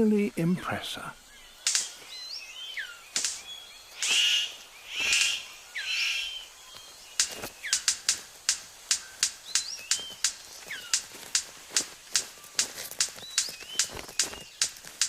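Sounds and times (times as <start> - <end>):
harsh rasping bird bursts: 1.0 - 15.0
thin whistled bird calls: 1.1 - 15.0
sharp bird clicks: 1.2 - 15.0.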